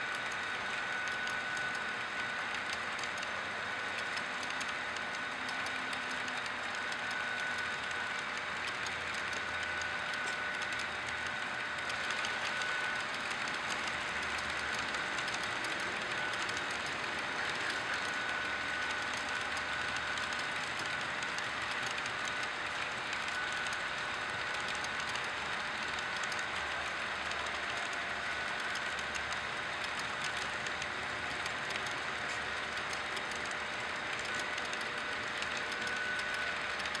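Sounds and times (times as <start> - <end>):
model train rolling on track: 0.0 - 37.0.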